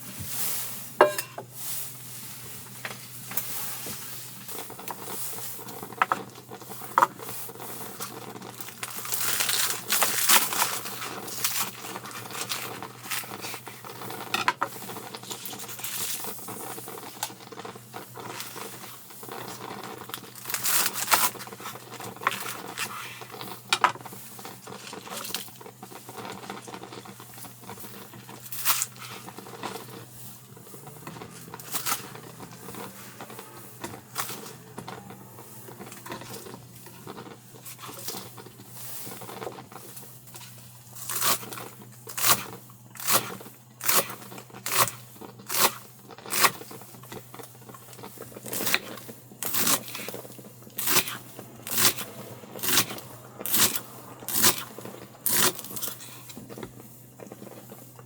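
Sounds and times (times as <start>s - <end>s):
scraping crunching strokes: 0.0s - 58.0s.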